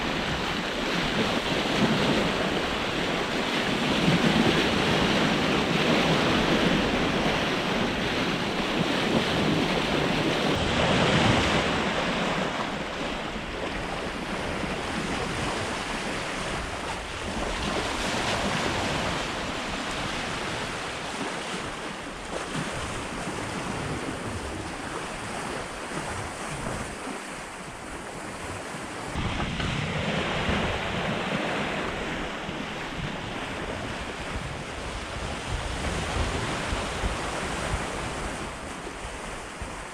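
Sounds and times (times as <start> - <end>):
water rushing past hull: 0.0 - 39.9
wind buffeting microphone: 0.0 - 39.9.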